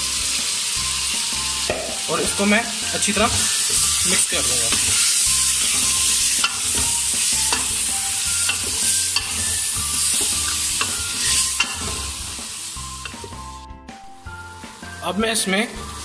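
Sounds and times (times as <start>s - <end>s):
meat sizzling in a pot: 0.0s - 13.7s, 14.4s - 16.0s.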